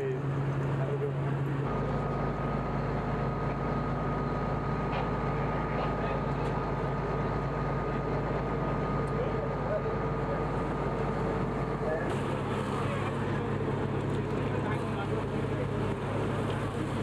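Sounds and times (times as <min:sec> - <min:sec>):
thin constant whine: 0:00.0 - 0:17.0
vehicle engine idling: 0:00.0 - 0:17.0.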